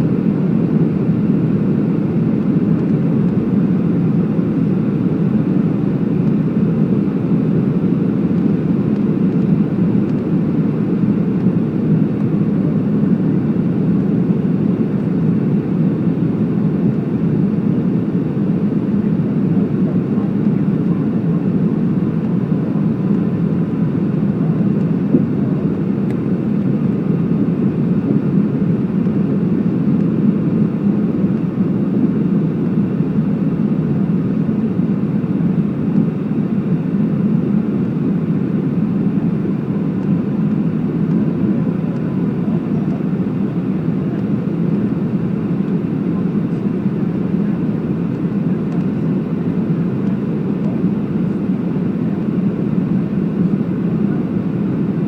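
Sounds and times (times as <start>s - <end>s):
airplane cabin engine roar: 0.0s - 55.0s
faint steady whine: 0.0s - 55.0s.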